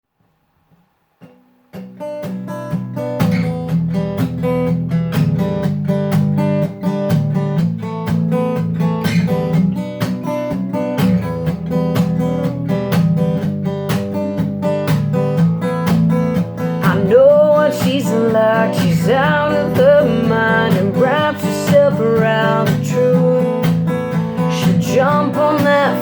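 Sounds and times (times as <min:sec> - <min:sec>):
acoustic guitar strumming: 0:00.7 - 0:26.0.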